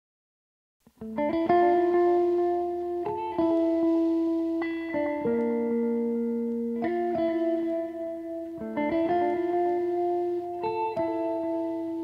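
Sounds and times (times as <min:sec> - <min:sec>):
guitar playing sustained chords: 0:00.8 - 0:12.0.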